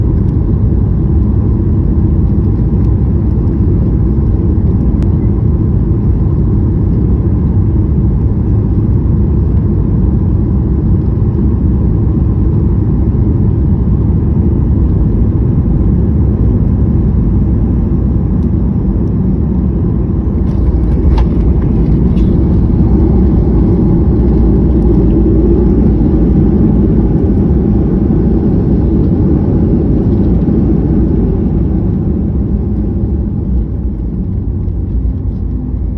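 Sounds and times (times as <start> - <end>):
airliner cabin rumble: 0.0 - 35.9.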